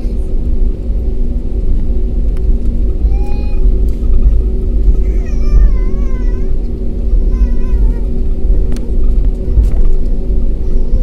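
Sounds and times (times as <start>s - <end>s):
airliner engines rumbling in cabin: 0.0s - 11.0s.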